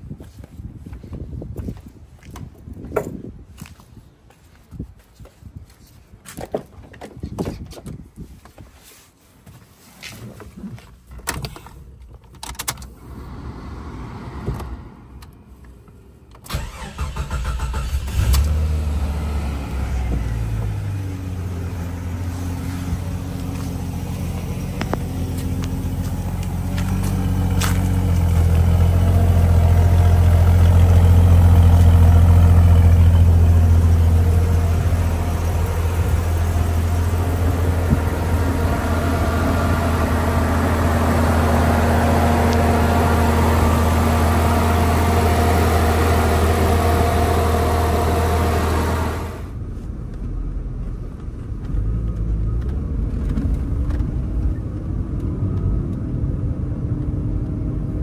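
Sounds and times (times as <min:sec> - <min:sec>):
car engine starting and idling: 0:11.0 - 0:58.0.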